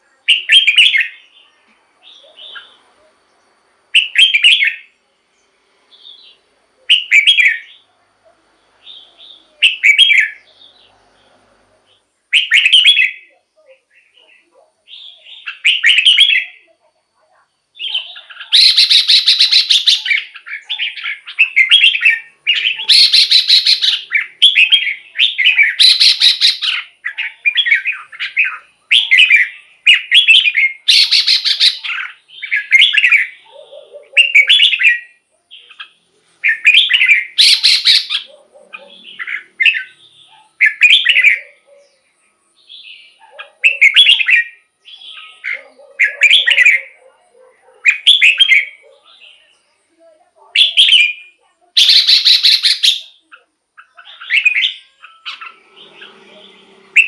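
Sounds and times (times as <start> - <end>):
bulbul singing whistled phrases: 0.0 - 3.1, 3.9 - 5.0, 5.9 - 7.9, 8.8 - 10.9, 11.9 - 16.8, 17.7 - 42.0, 42.6 - 47.2, 47.9 - 49.9, 50.5 - 57.0.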